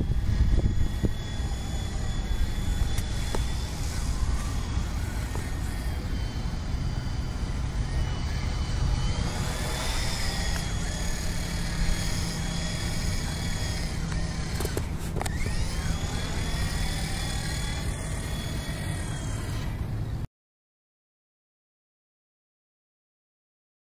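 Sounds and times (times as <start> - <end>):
toy helicopter motors whining: 0.0 - 20.1.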